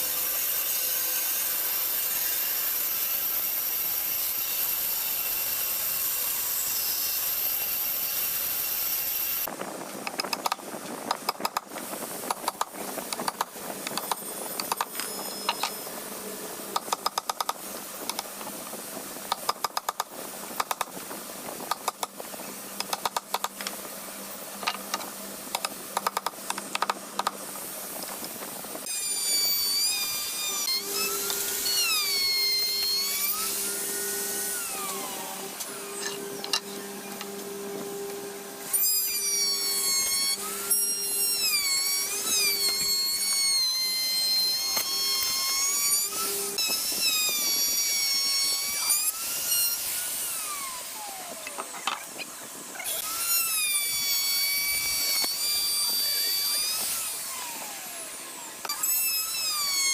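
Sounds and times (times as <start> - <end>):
electric drill whining: 0.0 - 59.9.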